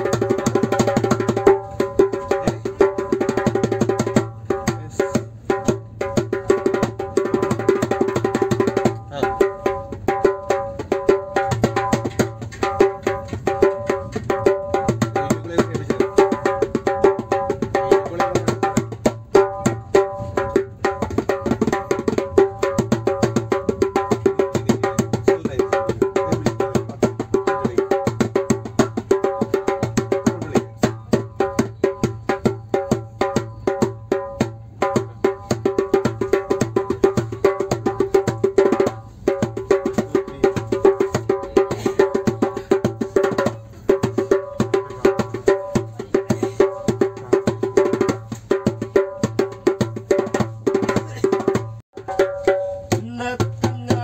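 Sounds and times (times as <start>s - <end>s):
hand drum slaps: 0.0s - 54.0s.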